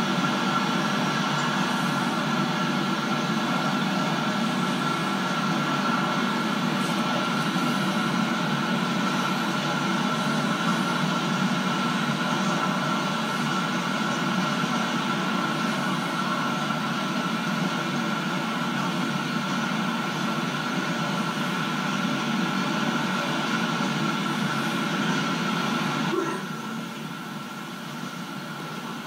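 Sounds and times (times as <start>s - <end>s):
train wheels on rail: 0.0s - 29.0s.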